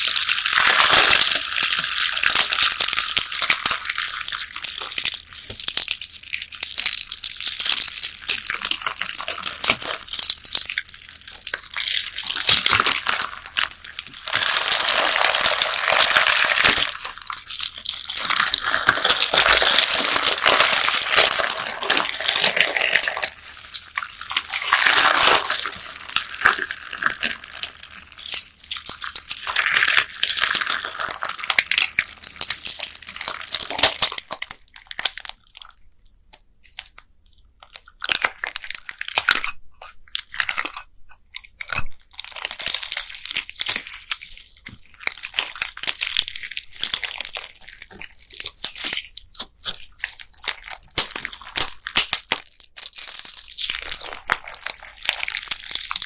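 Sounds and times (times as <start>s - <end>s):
bead-filled slime squishing: 0.0s - 56.0s.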